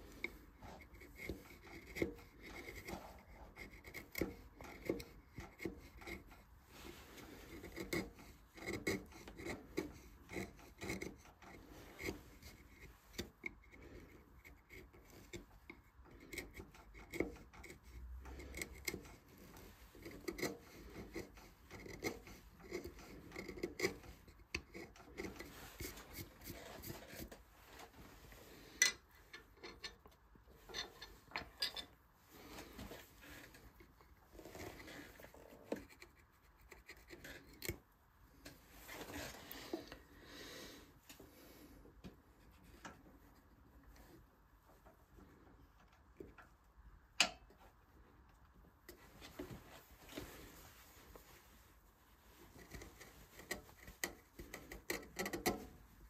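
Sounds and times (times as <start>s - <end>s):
carving tools scraping wood: 0.0s - 44.3s, 48.9s - 56.0s.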